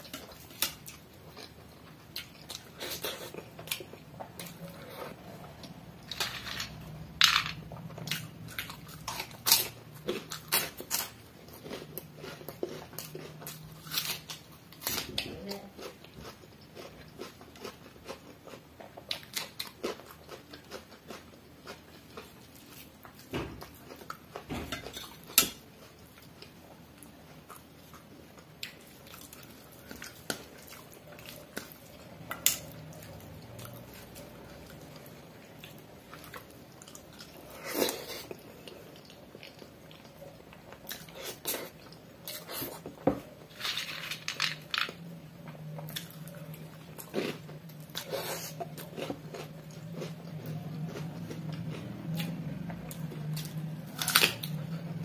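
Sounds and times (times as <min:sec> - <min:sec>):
chewing: 0:07.7 - 0:43.0, 0:45.7 - 0:55.0.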